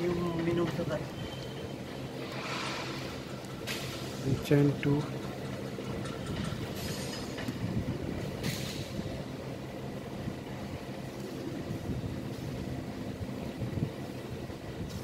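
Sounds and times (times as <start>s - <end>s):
machinery hum and rumble: 0.0s - 15.0s.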